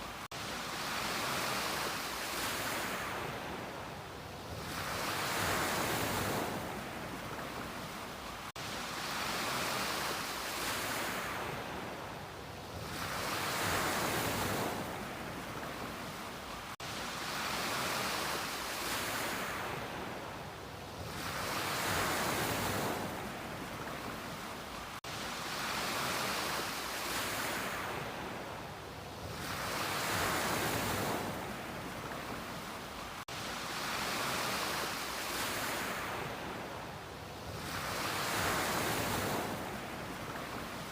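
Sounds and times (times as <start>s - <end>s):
ocean waves on a beach: 0.0s - 40.9s.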